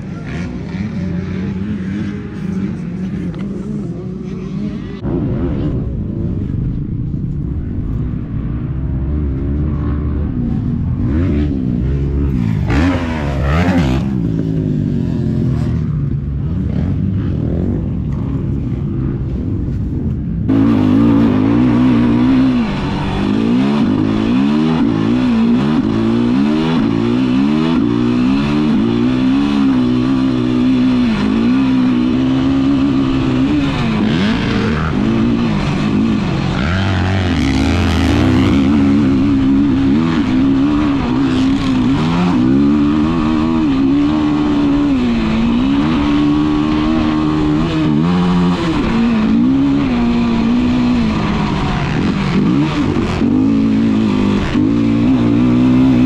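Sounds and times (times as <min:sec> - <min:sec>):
quad bike engine revving: 0:08.9 - 0:19.1, 0:20.5 - 0:56.0.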